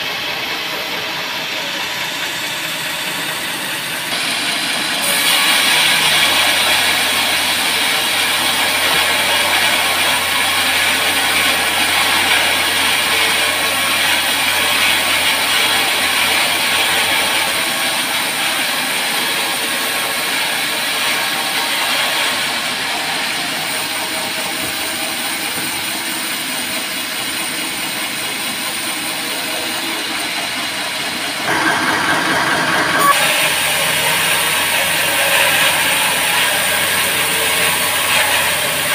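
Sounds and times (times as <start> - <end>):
band saw cutting log: 0.0 - 38.9
machine hum: 0.0 - 38.9.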